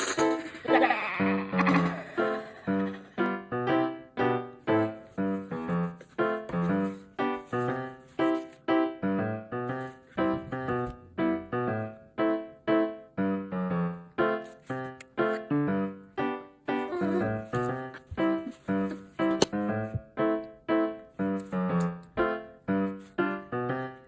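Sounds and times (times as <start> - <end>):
simple keyboard melody: 1.6 - 24.0.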